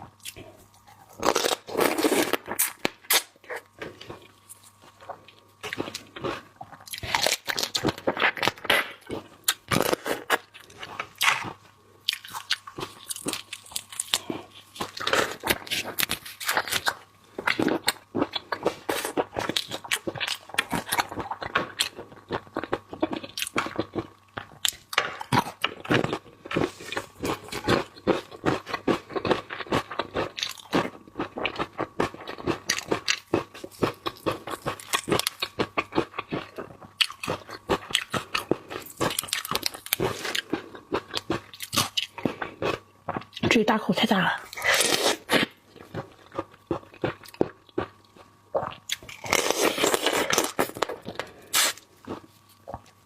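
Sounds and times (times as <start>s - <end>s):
crunching and chewing food: 0.0s - 53.0s.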